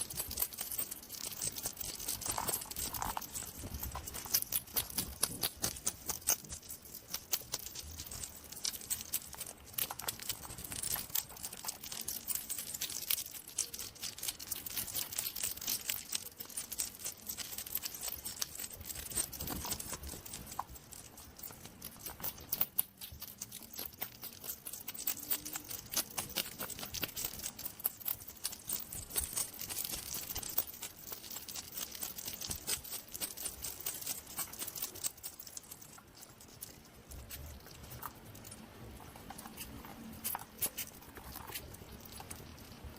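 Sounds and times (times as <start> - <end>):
hedgehog clicks and crackles: 0.0 - 42.9.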